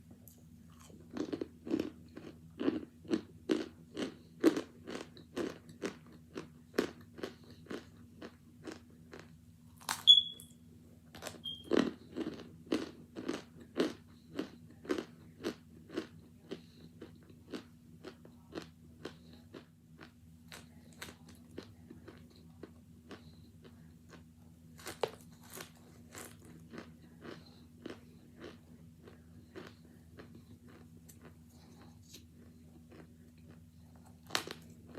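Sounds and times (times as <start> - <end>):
crunching and chewing: 0.1 - 10.3, 11.1 - 34.9.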